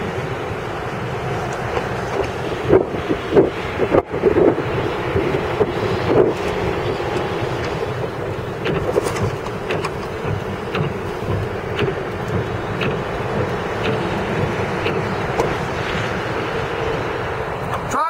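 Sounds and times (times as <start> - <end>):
wind on microphone: 0.0 - 17.8
road and engine noise: 0.0 - 18.0
faint ticking: 1.5 - 17.8.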